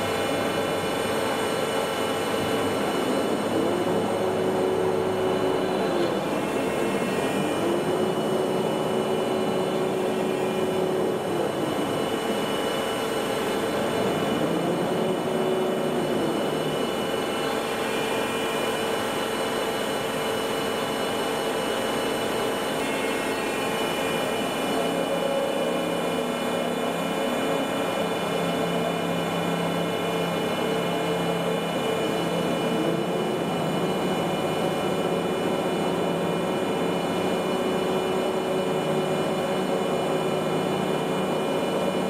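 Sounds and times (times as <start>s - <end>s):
milling machine humming and whining: 0.0s - 42.0s.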